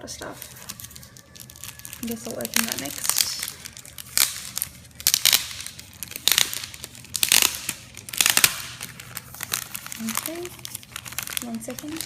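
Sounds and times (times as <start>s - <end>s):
packaging crinkling and tearing: 0.1s - 12.0s.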